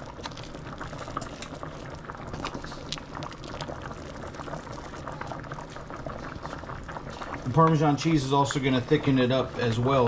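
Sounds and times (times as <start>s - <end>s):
sauce bubbling in a pan: 0.0s - 10.0s.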